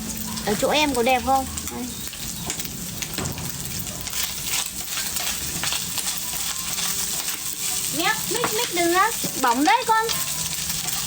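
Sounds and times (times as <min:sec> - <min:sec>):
food frying in hot oil: 0:00.0 - 0:11.0.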